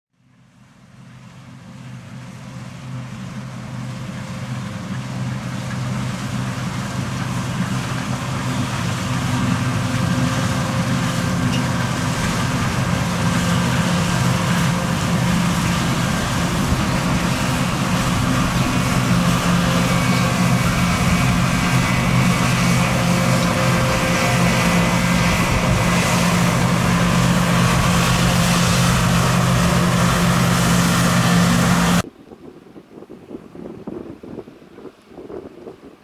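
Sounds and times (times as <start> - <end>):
combine harvester engine hum: 0.3 - 32.1.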